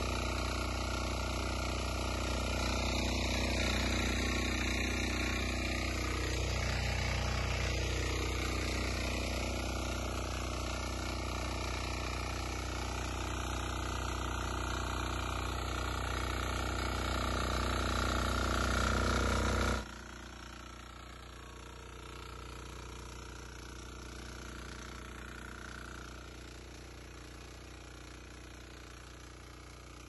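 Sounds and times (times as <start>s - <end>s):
diesel tiller engine droning: 0.0s - 30.0s
rotary blades digging soil: 0.0s - 30.0s.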